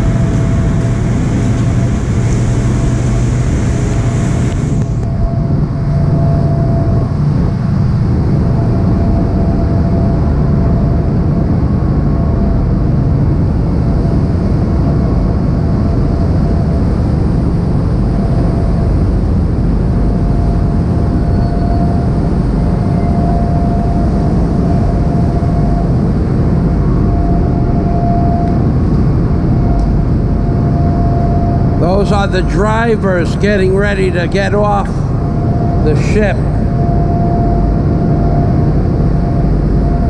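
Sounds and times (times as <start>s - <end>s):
diesel engines droning: 0.0s - 40.0s
thin steady whine: 0.0s - 40.0s.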